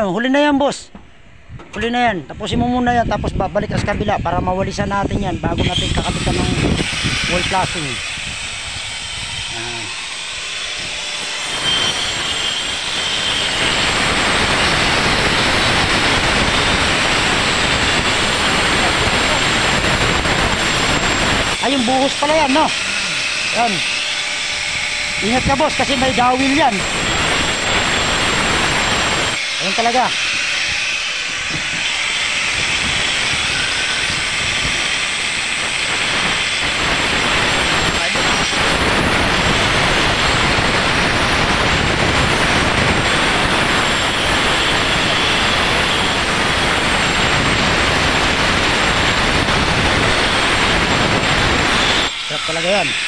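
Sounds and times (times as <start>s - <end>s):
angle grinder cutting concrete: 4.3s - 53.0s.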